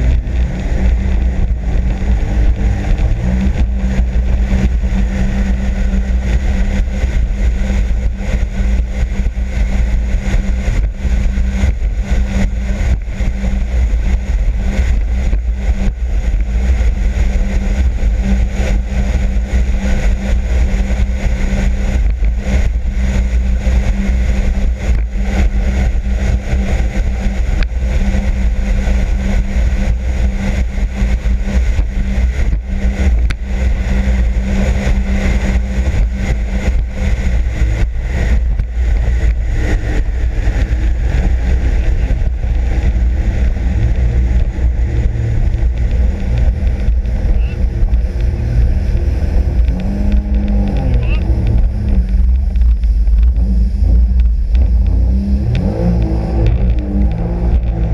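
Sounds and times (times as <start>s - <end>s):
jet ski engine running: 0.0s - 57.9s.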